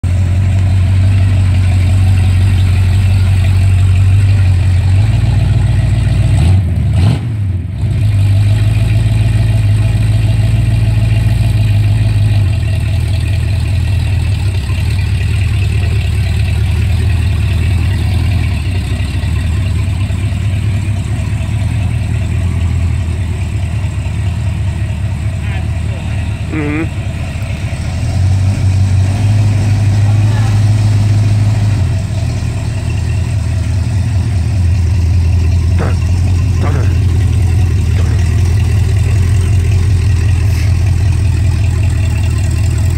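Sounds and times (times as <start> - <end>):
engine low drone: 0.0 - 42.9.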